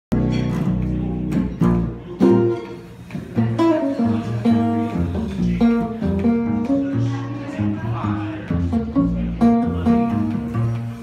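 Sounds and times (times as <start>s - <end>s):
guitar strumming chords: 0.1s - 11.0s
plucked double bass: 0.1s - 11.0s.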